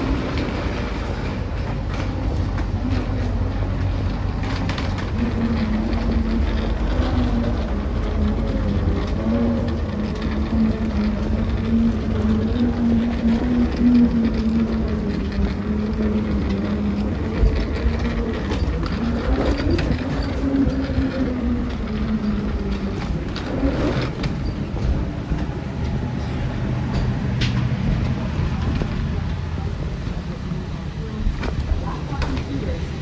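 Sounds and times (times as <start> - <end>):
vehicle interior rumble: 0.0 - 33.0.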